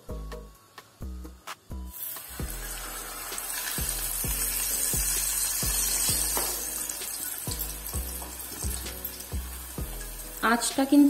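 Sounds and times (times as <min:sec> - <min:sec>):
background music with beat: 0:00.0 - 0:11.0
hot oil sizzling: 0:00.0 - 0:11.0.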